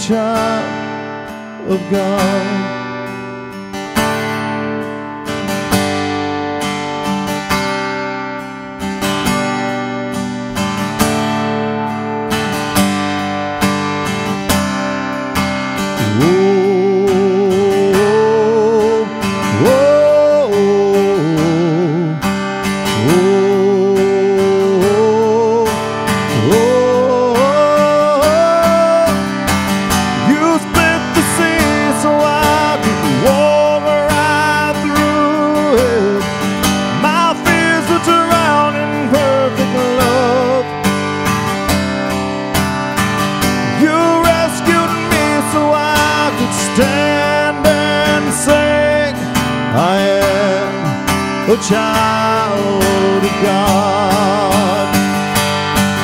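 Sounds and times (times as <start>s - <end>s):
acoustic guitar strumming: 0.0s - 56.0s
man singing with vibrato: 0.0s - 56.0s.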